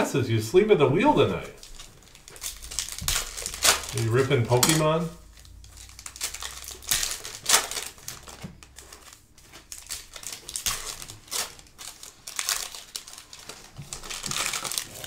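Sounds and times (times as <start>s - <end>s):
foil pack crinkling: 1.2s - 15.0s.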